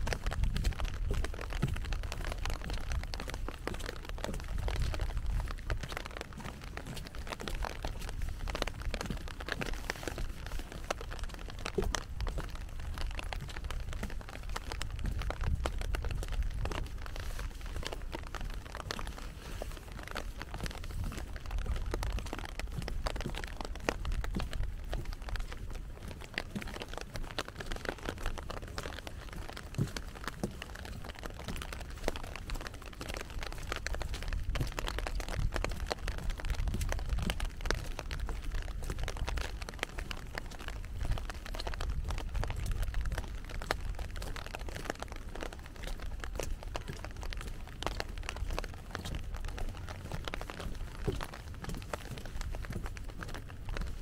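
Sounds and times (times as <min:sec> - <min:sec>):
raindrop taps: 0:00.0 - 0:54.0.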